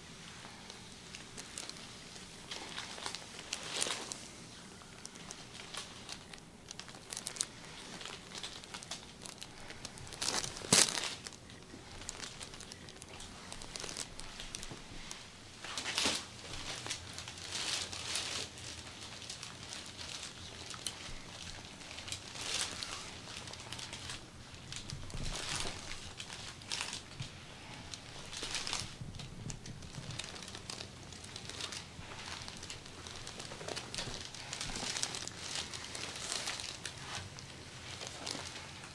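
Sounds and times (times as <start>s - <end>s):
rustling and crinkling: 0.0s - 38.9s.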